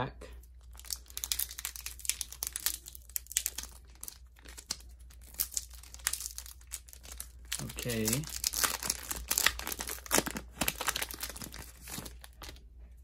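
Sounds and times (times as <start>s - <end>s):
foil wrapper crinkling and tearing: 0.4s - 12.6s.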